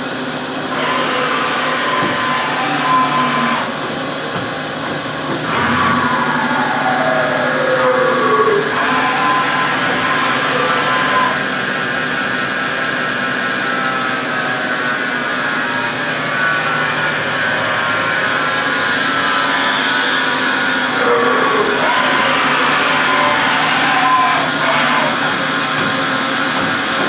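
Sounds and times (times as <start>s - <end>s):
lathe machine hum and whine: 0.0s - 27.0s.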